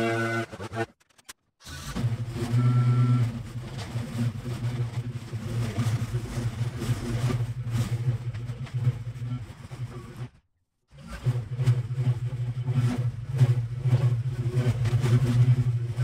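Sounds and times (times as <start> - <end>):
mower engine at high throttle: 1.6 - 16.0.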